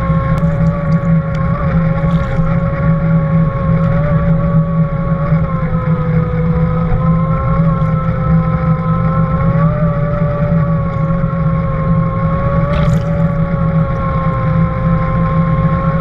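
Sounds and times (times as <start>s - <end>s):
propeller whine: 0.0s - 16.0s
underwater boat engine hum: 0.0s - 16.0s.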